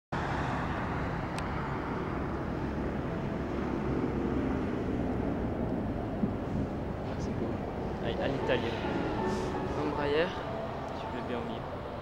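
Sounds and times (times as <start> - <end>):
jet engines rumbling: 0.2 - 12.0.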